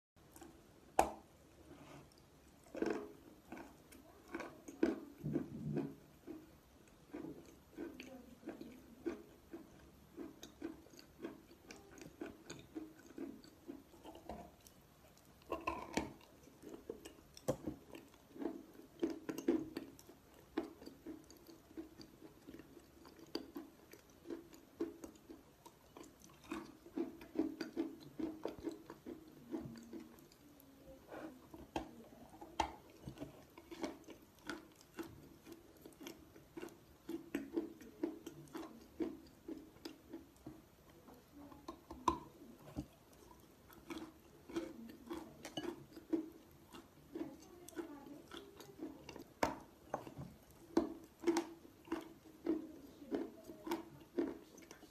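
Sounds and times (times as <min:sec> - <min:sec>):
wet chewing and clicks: 0:00.2 - 0:54.9.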